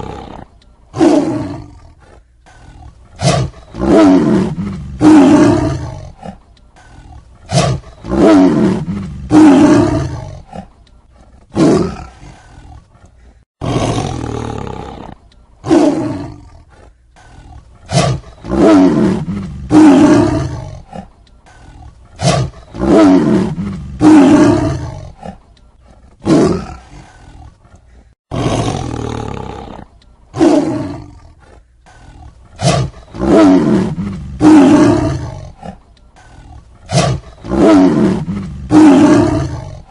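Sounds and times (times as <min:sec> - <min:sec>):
tiger roaring and growling: 0:00.0 - 0:39.9.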